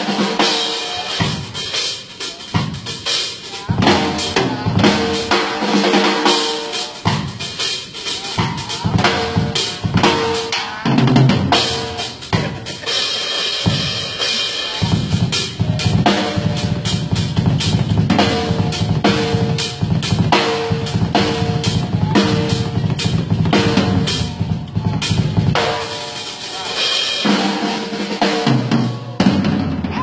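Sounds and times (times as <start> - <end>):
fast drum kit playing: 0.0 - 30.0.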